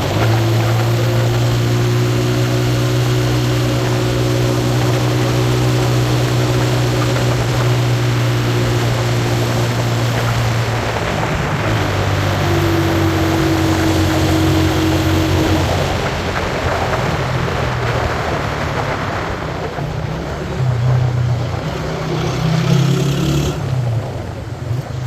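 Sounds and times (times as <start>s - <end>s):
low engine drone: 0.0s - 25.0s
rushing noise: 0.0s - 25.0s.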